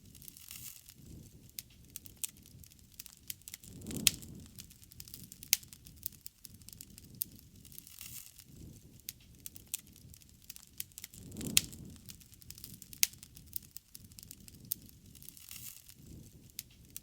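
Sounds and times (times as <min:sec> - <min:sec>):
wood bonfire crackling: 0:00.0 - 0:17.0.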